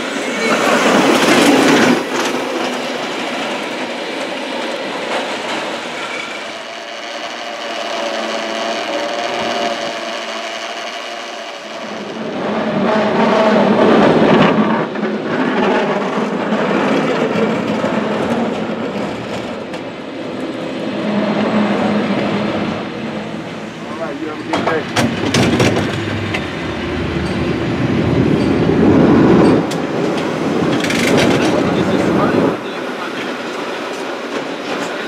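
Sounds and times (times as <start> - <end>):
rail noise: 0.0 - 35.0
haul cable whirring and clattering: 0.4 - 35.0.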